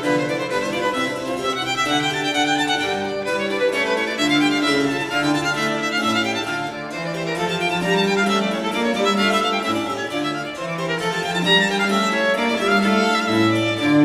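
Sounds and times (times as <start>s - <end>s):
violin melody: 0.0s - 14.0s.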